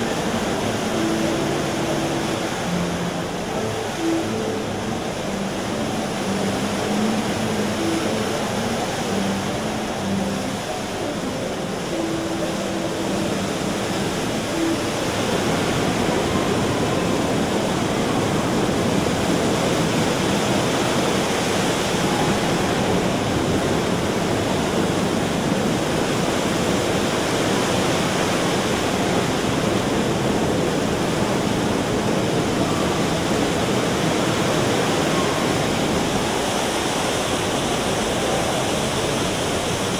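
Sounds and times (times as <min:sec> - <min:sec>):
faint music: 0:00.0 - 0:39.9.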